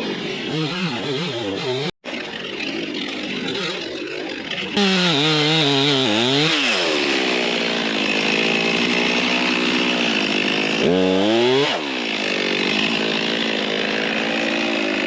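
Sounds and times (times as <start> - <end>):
chainsaw revving: 0.0 - 15.0.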